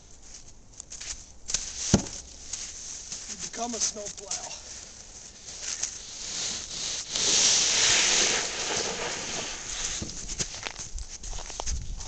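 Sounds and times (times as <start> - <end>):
crunching and scuffing snow: 0.0 - 12.0
footsteps in snow: 0.0 - 12.0
snow scraping along ground: 1.6 - 11.8.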